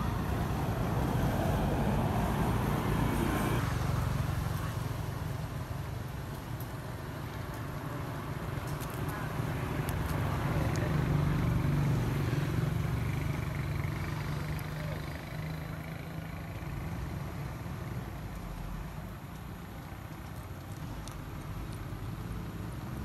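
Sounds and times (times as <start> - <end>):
passing vehicle engine hum: 0.0 - 23.0.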